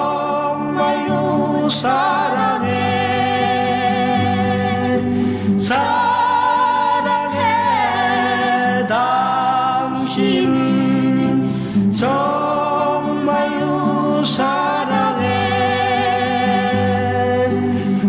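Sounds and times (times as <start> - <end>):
pop-folk duet singing: 0.0 - 18.0
soft backing music: 0.0 - 18.0.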